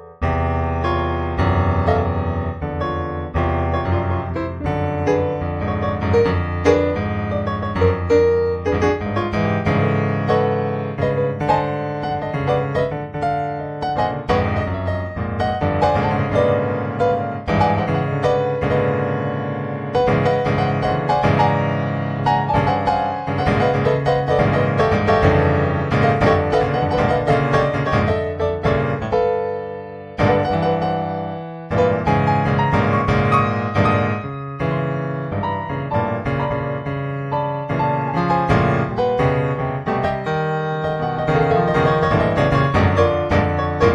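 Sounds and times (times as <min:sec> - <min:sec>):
solo piano piece: 0:00.0 - 0:43.9.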